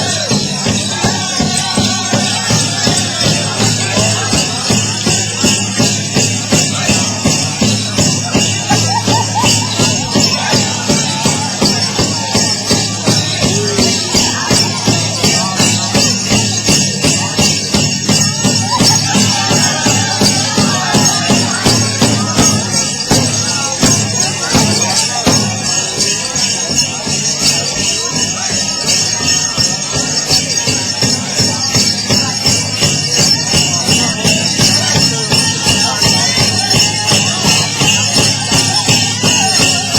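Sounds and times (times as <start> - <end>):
people singing: 0.0 - 26.6, 31.4 - 39.9
big drum steady beat: 0.0 - 39.9
jingling bells: 0.0 - 39.9.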